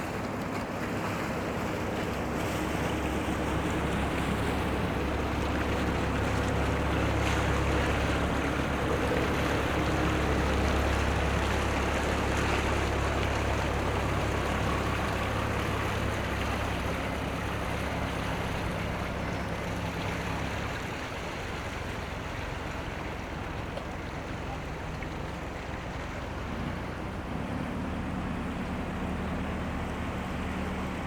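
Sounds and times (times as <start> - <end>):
low engine rumble: 0.0 - 31.0.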